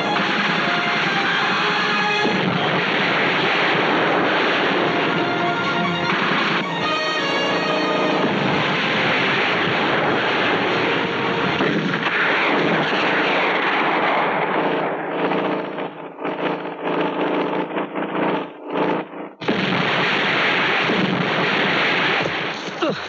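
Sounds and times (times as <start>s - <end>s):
explosions: 0.0s - 23.0s
gunfire: 0.0s - 23.0s.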